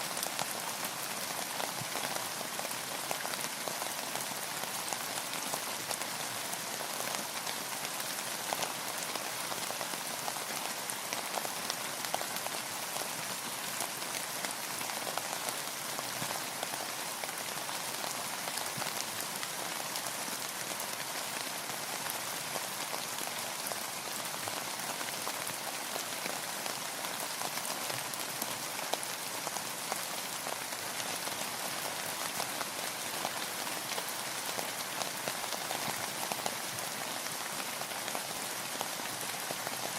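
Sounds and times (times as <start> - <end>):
rain pattering on hard surface: 0.0 - 39.9.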